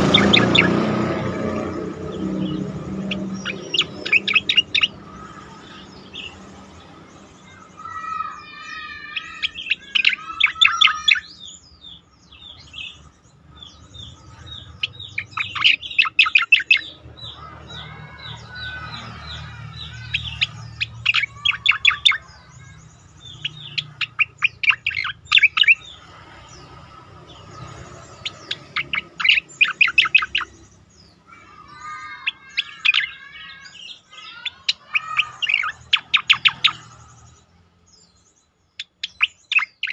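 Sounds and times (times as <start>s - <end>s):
bird whistled song: 0.0s - 6.8s, 7.4s - 26.7s, 27.3s - 39.9s.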